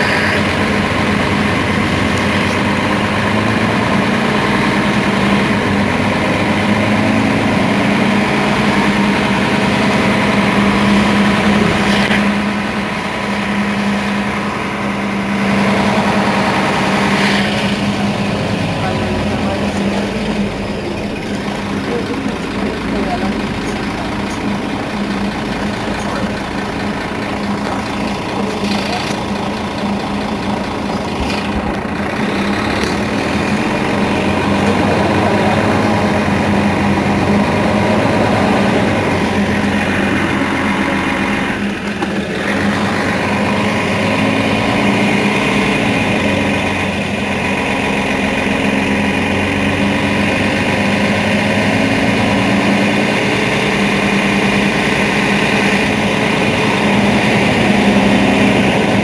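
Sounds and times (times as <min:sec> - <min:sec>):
bus diesel engine idling: 0:00.0 - 0:59.0.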